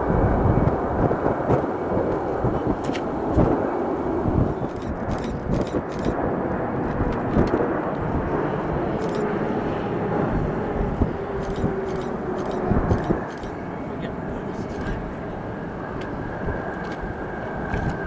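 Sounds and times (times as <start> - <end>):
faint jet engine whine: 0.0 - 18.0
jet engine rumble: 0.0 - 18.0.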